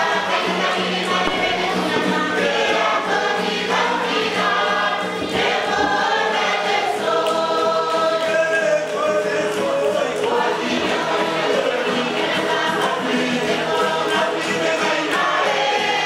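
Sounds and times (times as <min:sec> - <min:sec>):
group singing choral chant: 0:00.0 - 0:16.0.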